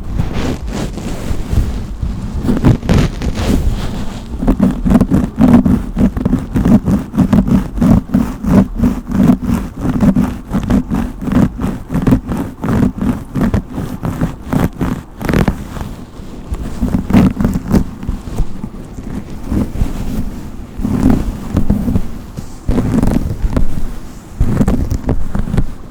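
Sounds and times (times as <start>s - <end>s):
brush scratching strokes: 0.0s - 25.9s.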